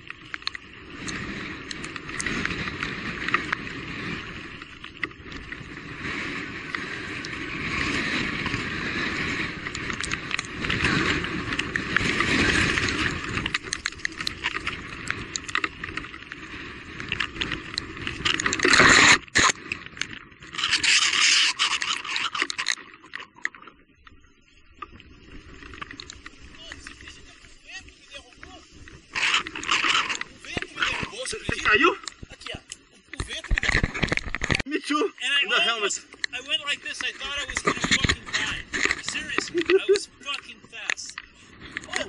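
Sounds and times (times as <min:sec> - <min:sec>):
mountain bike tyre and chassis noise: 0:00.0 - 0:42.0.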